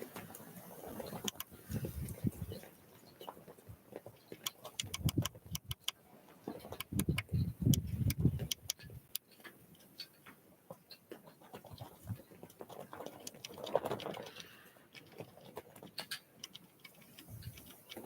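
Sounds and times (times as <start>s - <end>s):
birds pecking and tapping: 0.0s - 18.0s.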